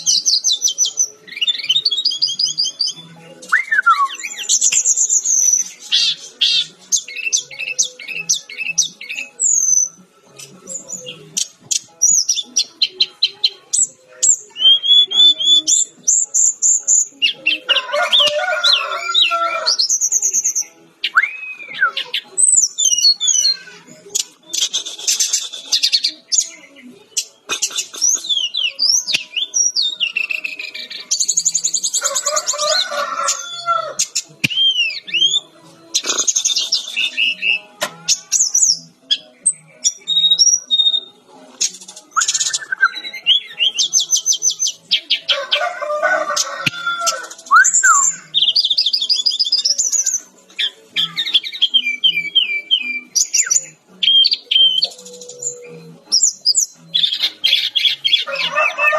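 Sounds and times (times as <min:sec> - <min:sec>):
bird singing varied song: 0:00.0 - 0:58.9.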